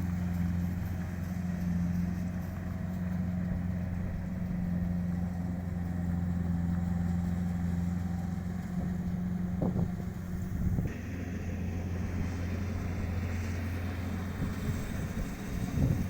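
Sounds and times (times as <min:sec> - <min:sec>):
combine harvester engine humming: 0:00.0 - 0:16.0.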